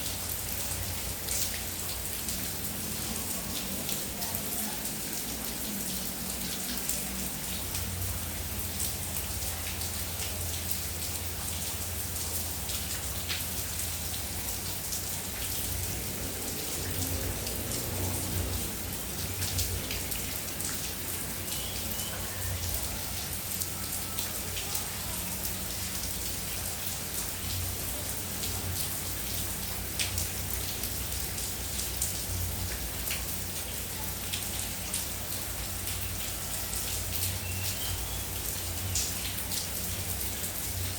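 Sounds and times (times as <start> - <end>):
raindrops ticking nearby: 0.0 - 40.9
steady rain falling: 0.0 - 40.9.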